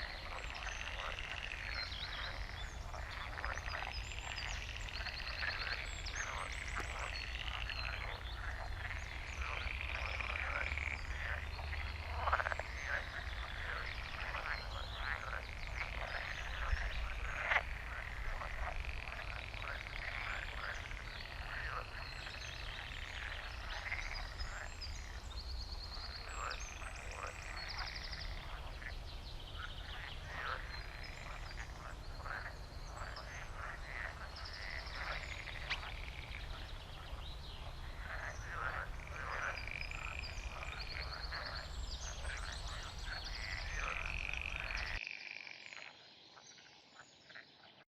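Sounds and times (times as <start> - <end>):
birds chirping: 0.0 - 45.0
frogs croaking: 0.0 - 47.8.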